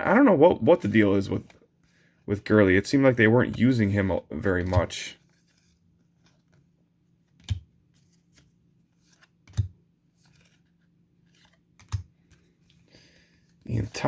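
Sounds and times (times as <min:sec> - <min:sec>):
cards rustling: 0:00.3 - 0:14.0.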